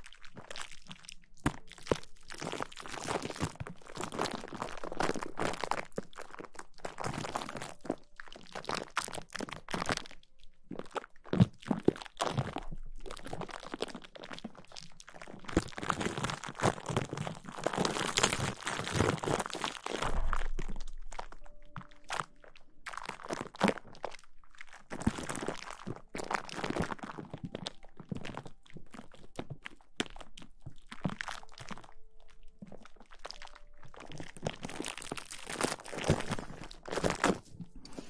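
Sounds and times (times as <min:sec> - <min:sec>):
crinkling rustling against microphone: 0:00.0 - 0:38.0.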